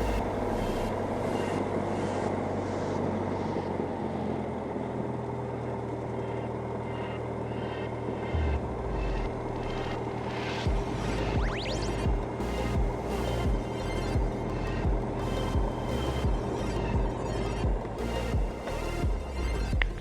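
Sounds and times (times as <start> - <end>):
propeller plane engine droning: 0.0 - 19.2.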